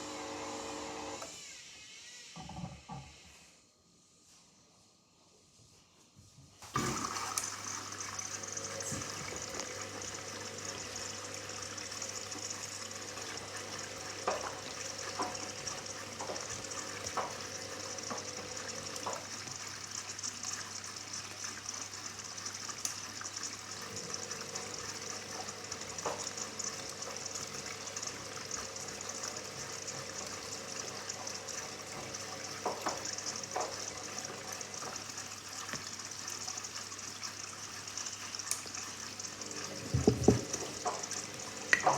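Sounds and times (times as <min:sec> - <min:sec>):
water rushing into washing machine: 0:06.6 - 0:41.9.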